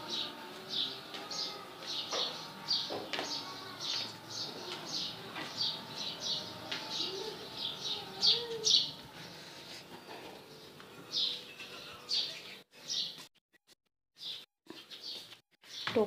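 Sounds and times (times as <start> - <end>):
small birds chirping: 0.0 - 13.2, 14.2 - 16.0.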